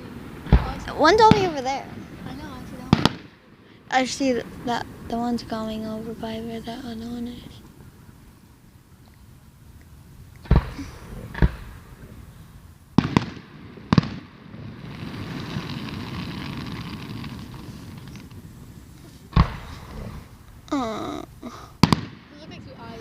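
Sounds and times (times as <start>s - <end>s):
fireworks bangs: 0.0s - 23.0s
rumbling crackle: 0.0s - 23.0s.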